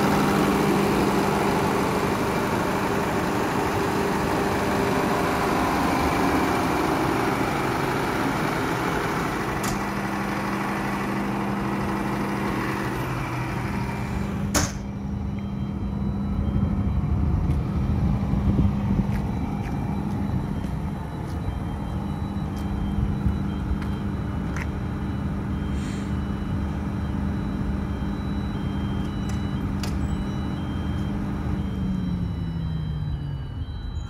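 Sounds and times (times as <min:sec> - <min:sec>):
diesel generator humming: 0:00.0 - 0:34.0.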